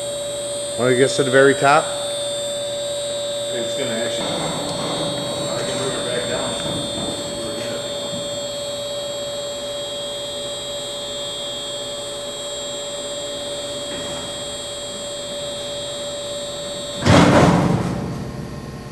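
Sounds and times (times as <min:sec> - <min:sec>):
hoist drive humming and whining: 0:00.0 - 0:18.9.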